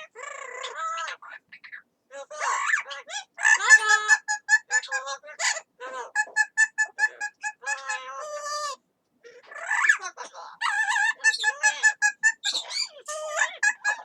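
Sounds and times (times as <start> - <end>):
parrot calling in clipped notes: 0.0 - 14.0.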